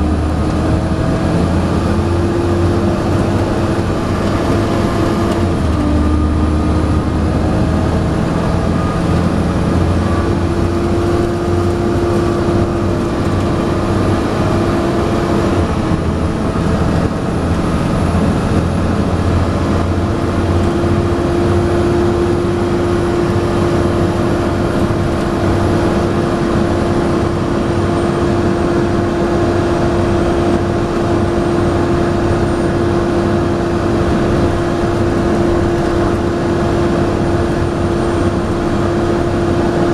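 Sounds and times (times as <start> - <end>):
bus engine drone with whine: 0.0 - 39.9.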